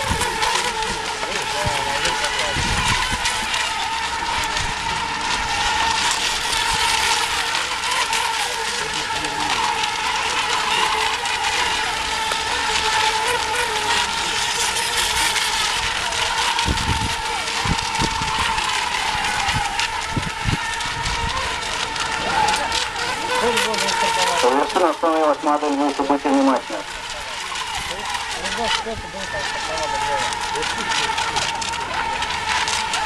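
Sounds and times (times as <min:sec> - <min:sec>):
electric boat motor whine: 0:00.0 - 0:33.0.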